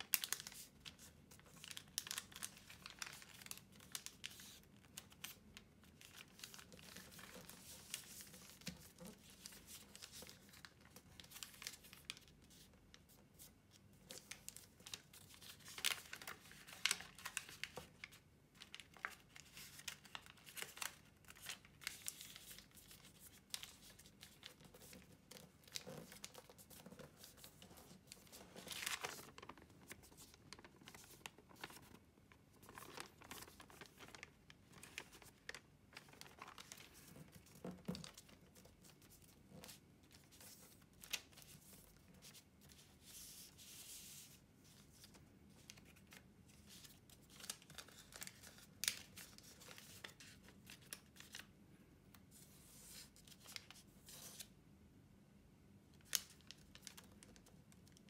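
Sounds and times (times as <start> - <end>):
paper rustling and crinkling: 0.0 - 51.5, 52.3 - 54.6, 56.0 - 58.0.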